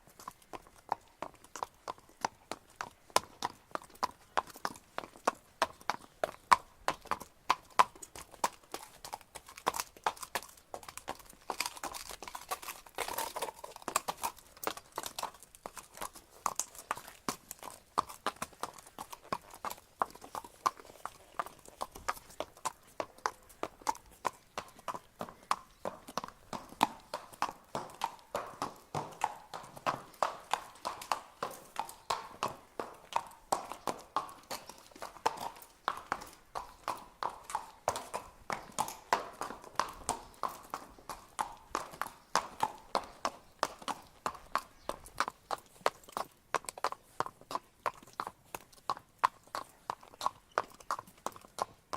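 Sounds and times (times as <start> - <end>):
horse hooves clip-clopping: 0.0 - 51.9.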